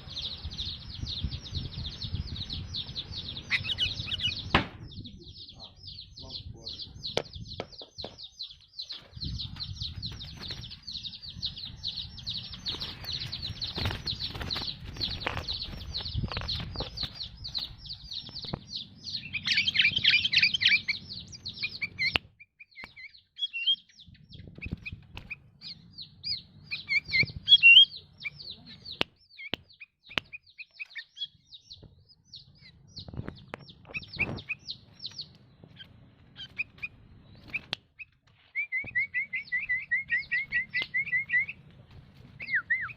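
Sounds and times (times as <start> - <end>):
bulbul chirping: 0.0 - 41.6.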